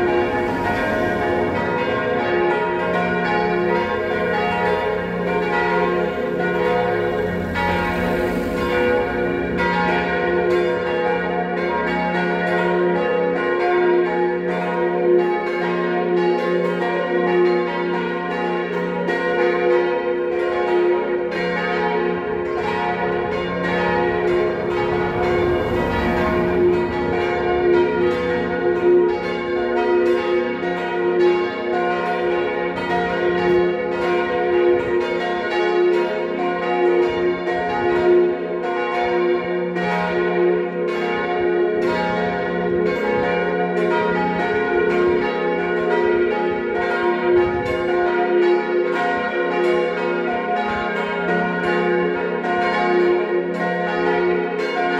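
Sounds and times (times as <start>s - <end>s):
church bells ringing: 0.0s - 54.9s.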